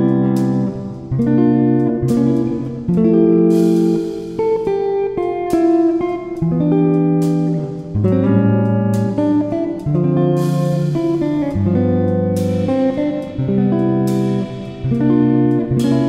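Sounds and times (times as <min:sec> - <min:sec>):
guitar music: 0:00.0 - 0:16.0.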